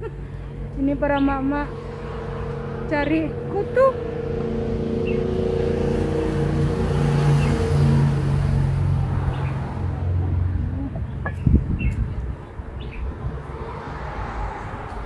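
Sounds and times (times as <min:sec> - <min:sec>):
vehicle engine running: 0:00.0 - 0:12.7.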